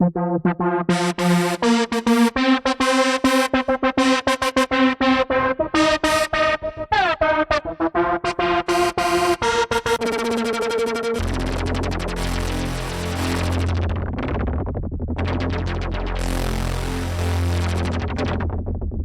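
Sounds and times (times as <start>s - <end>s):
synthesizer playing buzzy notes: 0.0s - 14.1s, 15.3s - 18.5s.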